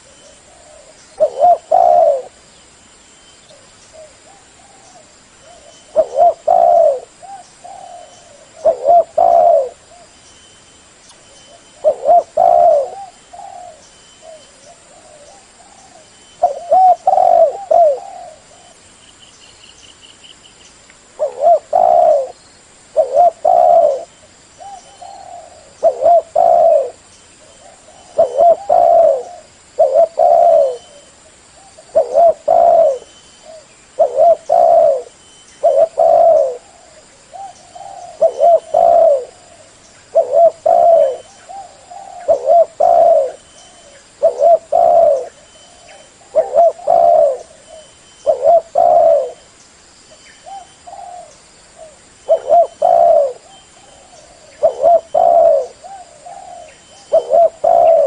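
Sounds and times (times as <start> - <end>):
dove cooing: 0.0 - 2.4, 3.5 - 10.2, 11.5 - 18.8, 21.2 - 49.5, 50.4 - 58.0.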